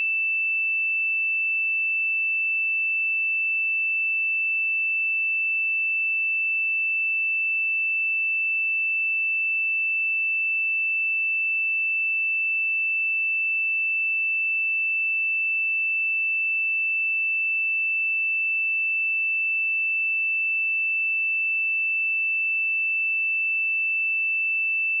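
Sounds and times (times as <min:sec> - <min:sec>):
sine wave test tone: 0:00.0 - 0:25.0.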